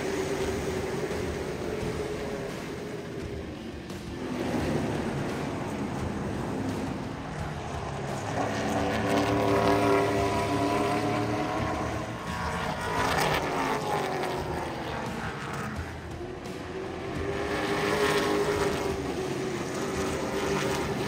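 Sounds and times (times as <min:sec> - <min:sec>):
race car engines: 0:00.0 - 0:21.0
race car passing by: 0:00.0 - 0:21.0.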